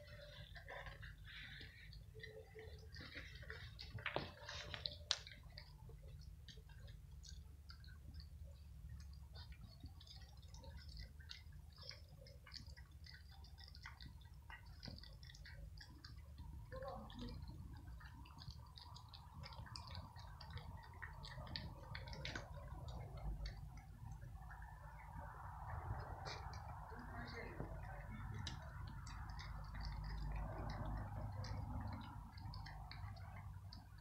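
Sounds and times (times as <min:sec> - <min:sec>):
cats crunching dry kibble: 0:00.0 - 0:34.0
faint steady hum: 0:00.0 - 0:34.0.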